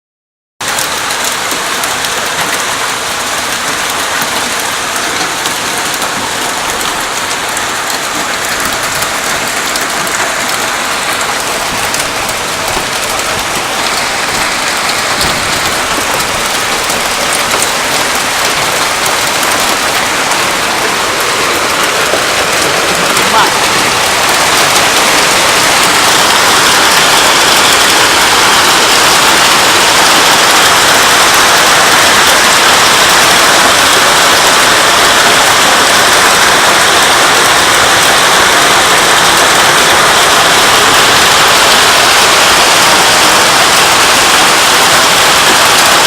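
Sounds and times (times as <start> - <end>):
heavy rain pouring: 0.6 - 46.0.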